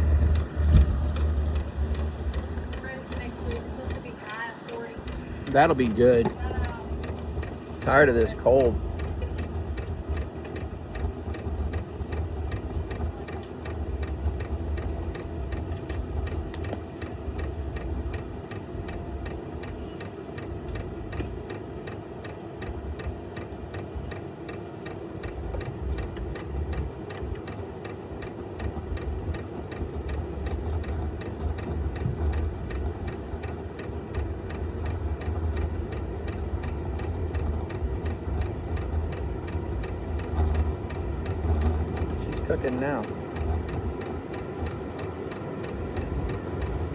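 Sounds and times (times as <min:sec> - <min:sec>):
air heater rumbling: 0:00.0 - 0:46.9
fast ticking pump: 0:00.0 - 0:46.9.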